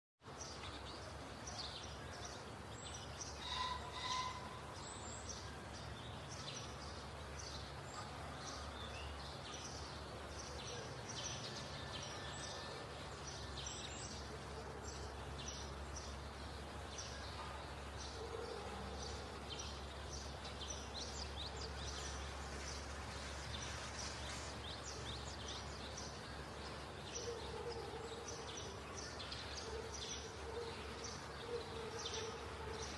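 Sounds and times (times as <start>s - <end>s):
small birds chirping: 0.2s - 32.9s.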